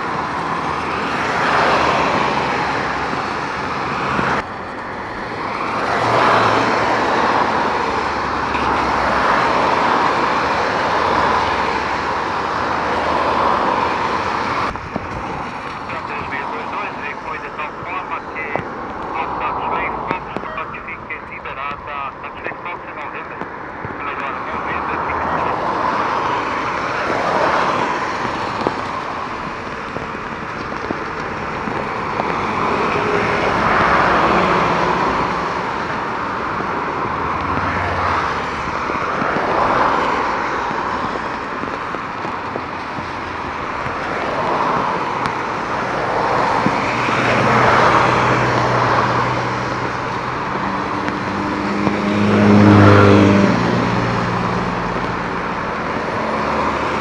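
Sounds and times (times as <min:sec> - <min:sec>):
jet engines rushing: 0:00.0 - 0:57.0
torrential rain: 0:05.3 - 0:20.5, 0:23.4 - 0:57.0.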